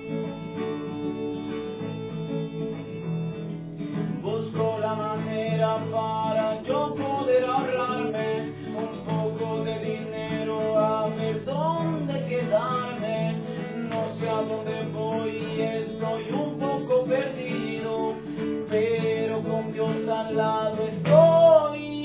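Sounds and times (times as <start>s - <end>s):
acoustic guitar strumming: 0.0s - 22.0s
man singing wordlessly: 4.2s - 22.0s.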